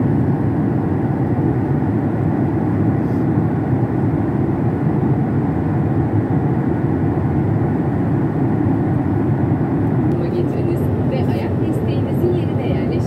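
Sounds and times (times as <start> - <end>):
airflow along fuselage: 0.0 - 13.0
jet engines rushing: 0.0 - 13.0.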